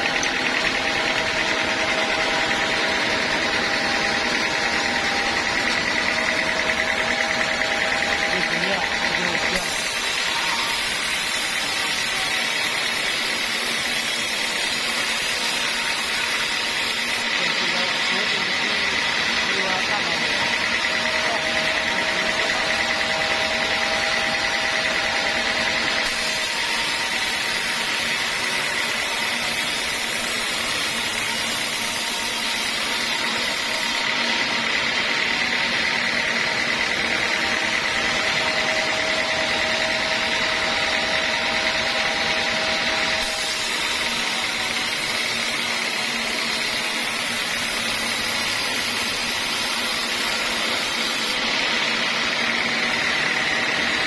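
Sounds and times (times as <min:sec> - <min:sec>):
circular saw whining: 0:00.0 - 0:54.0
machine noise: 0:00.0 - 0:54.0.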